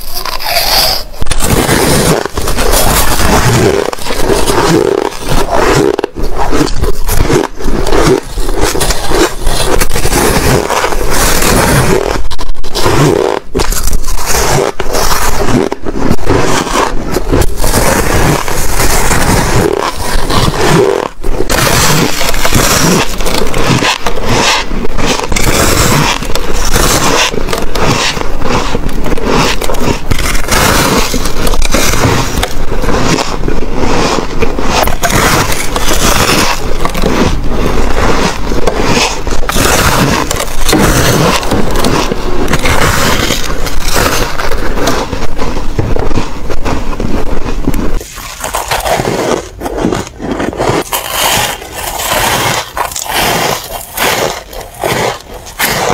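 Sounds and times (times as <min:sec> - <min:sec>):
ice being chewed: 0:00.0 - 0:46.2, 0:47.6 - 0:55.9.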